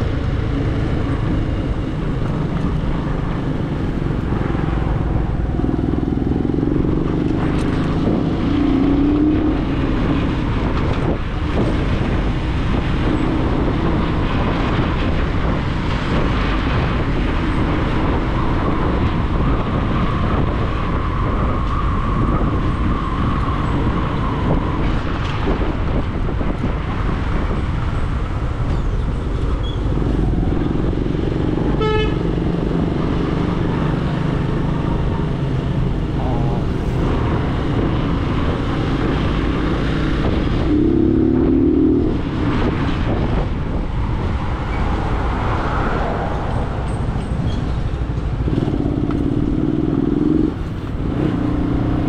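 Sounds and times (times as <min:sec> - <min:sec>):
road noise: 0:00.0 - 0:52.0
vehicle engine rumbling: 0:00.0 - 0:52.0.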